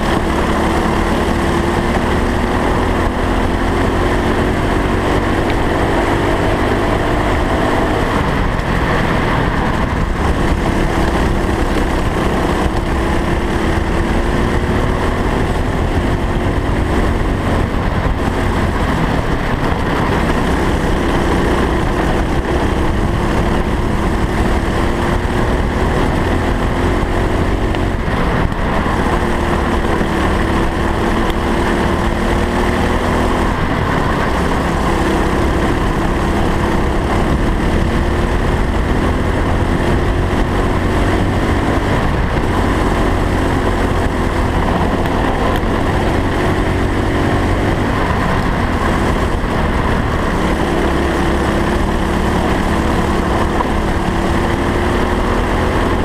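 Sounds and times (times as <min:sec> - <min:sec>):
kart engine revving: 0:00.0 - 0:56.0
wind rumble on microphone: 0:00.0 - 0:56.0.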